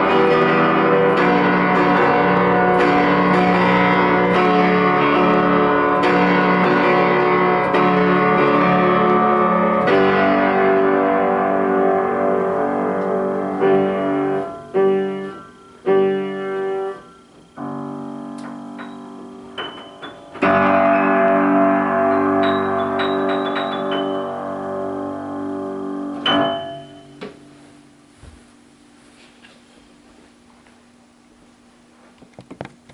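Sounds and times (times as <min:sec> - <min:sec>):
high single piano notes: 0:00.0 - 0:27.6
piano chords: 0:00.0 - 0:28.9.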